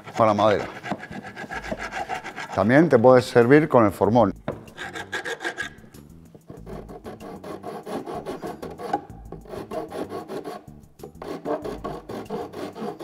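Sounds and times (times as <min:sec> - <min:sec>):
wood file scraping wood: 0:00.0 - 0:03.0, 0:04.5 - 0:13.0.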